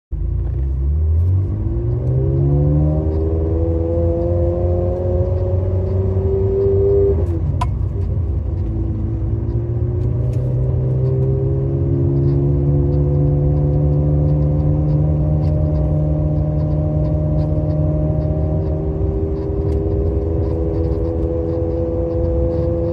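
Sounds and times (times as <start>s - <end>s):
car engine accelerating: 0.1s - 22.9s.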